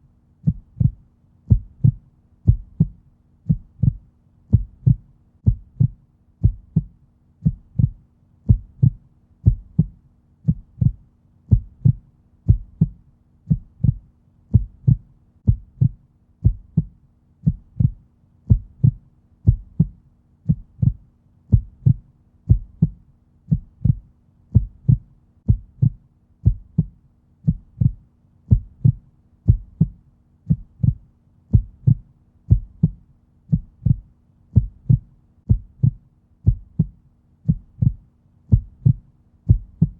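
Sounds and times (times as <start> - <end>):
faint steady hum: 0.0 - 39.9
heartbeat thumps: 0.4 - 39.9.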